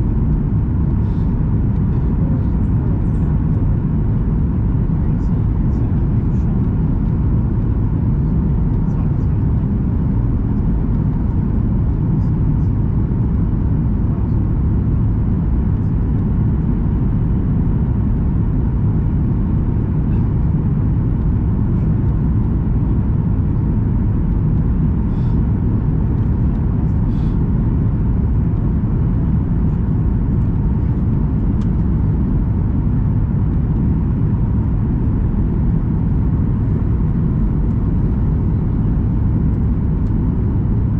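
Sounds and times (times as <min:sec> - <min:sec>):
airplane cabin rumble: 0:00.0 - 0:40.9.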